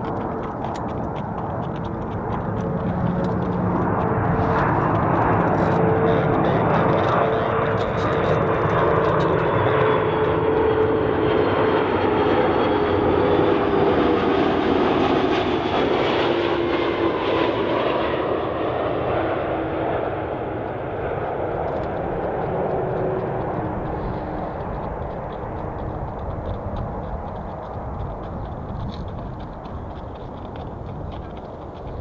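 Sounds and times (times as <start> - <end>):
jet airliner engine roar: 0.0 - 32.0.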